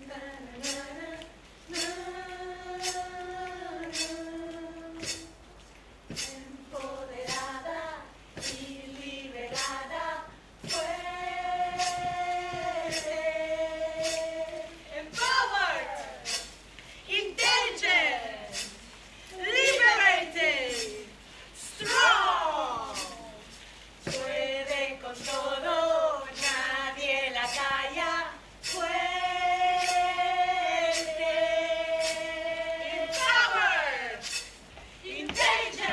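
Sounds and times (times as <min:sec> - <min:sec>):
women singing unaccompanied: 0:00.0 - 0:35.9.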